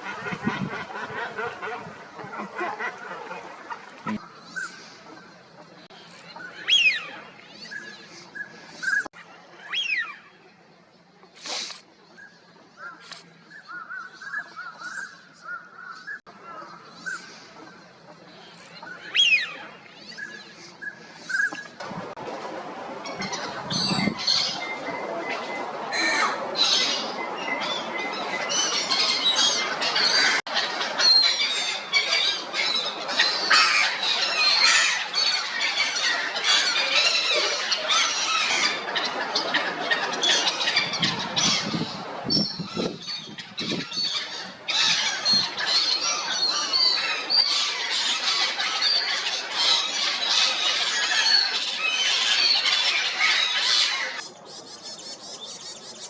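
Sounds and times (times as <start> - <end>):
flock of gulls calling: 0.0 - 10.4, 12.8 - 22.2, 23.0 - 56.0.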